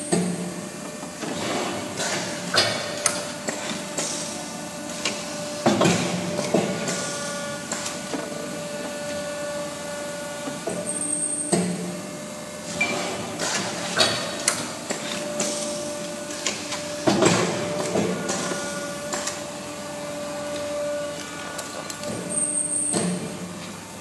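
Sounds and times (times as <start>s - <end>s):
machine hum with whining tone: 0.0s - 24.0s.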